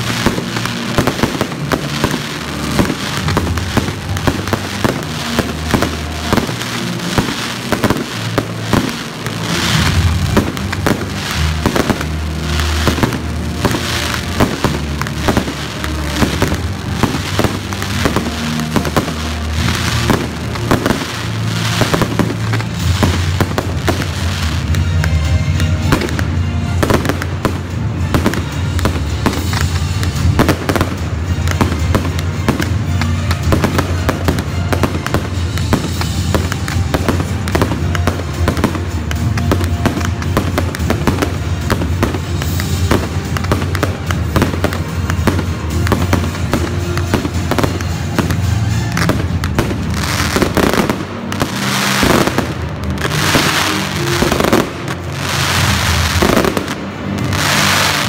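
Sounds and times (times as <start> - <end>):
fireworks bursting and crackling: 0.0 - 58.0
music with low bass line: 0.0 - 58.0.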